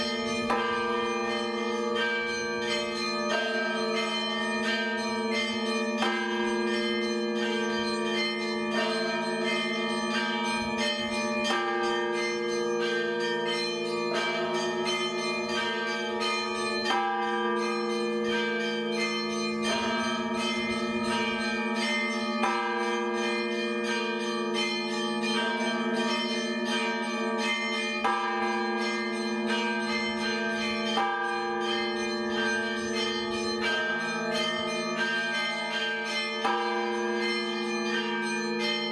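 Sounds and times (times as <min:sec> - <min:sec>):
church bells ringing: 0:00.0 - 0:38.9
low hum of large bell: 0:00.0 - 0:38.9.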